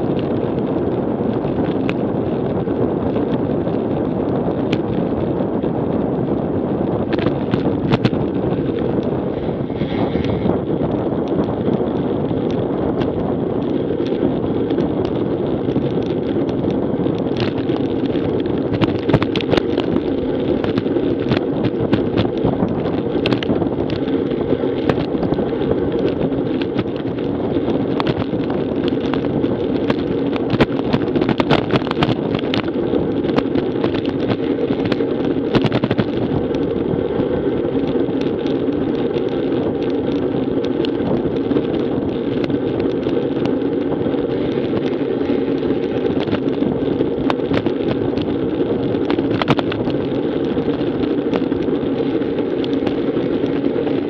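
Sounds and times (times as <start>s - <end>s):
tyre noise on rough asphalt: 0.0s - 54.0s
wind rush on microphone: 0.0s - 54.0s.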